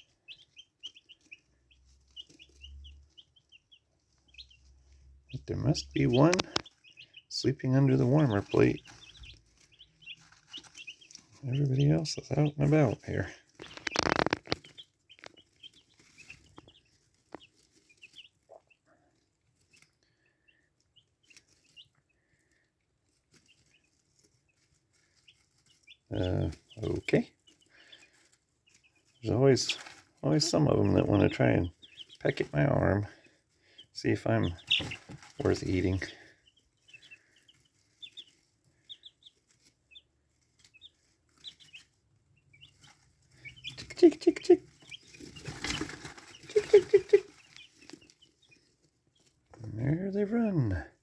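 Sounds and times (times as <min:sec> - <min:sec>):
chicks peeping: 0:00.0 - 0:51.0.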